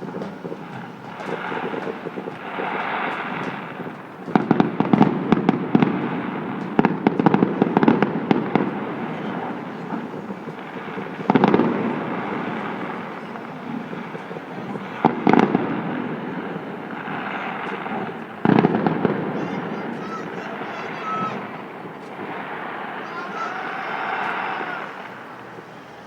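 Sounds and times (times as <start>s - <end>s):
fireworks bangs and crackles: 0.0s - 26.0s
loud firework burst: 0.0s - 26.0s
steady rumbling haze: 0.0s - 26.0s.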